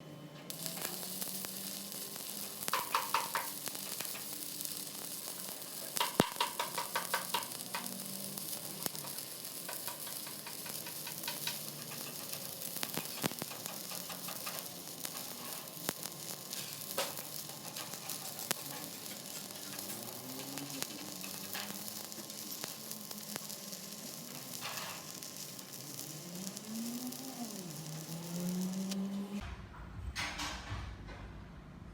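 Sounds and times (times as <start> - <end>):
welding arc crackling: 0.5 - 29.4.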